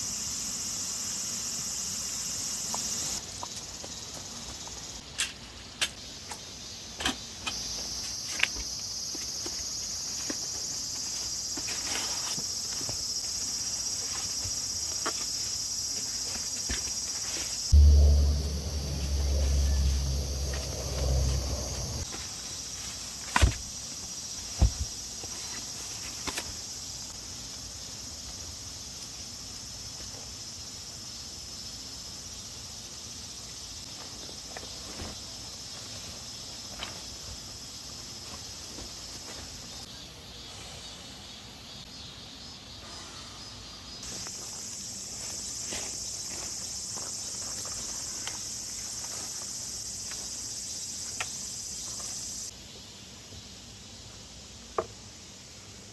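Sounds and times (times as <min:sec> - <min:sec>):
insects buzzing: 0:00.0 - 0:55.9.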